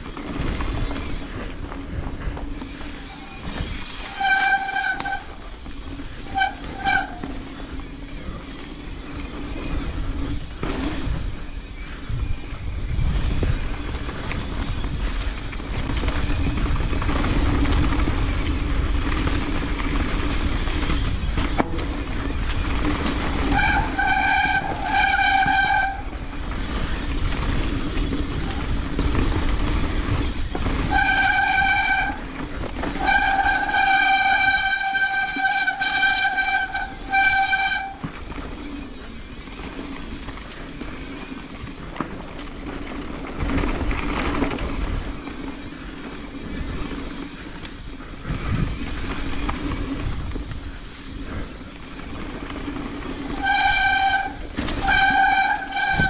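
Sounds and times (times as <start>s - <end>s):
rumble of tyres and wind: 0.0s - 56.0s
bike brakes squealing: 2.6s - 16.8s, 20.0s - 41.8s, 45.2s - 56.0s.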